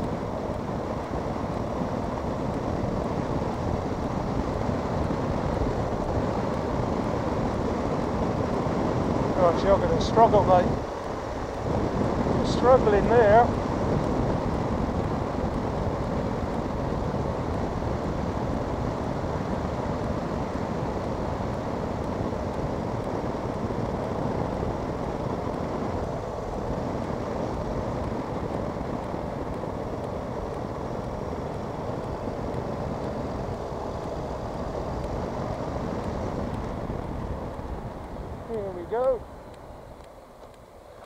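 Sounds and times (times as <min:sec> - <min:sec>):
road and wind noise: 0:00.0 - 0:41.0.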